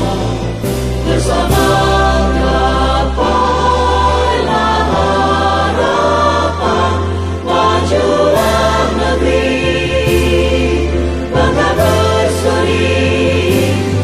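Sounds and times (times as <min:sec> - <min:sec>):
choir singing a hymn: 0:00.0 - 0:14.0
instrumental accompaniment with bass: 0:00.0 - 0:14.0.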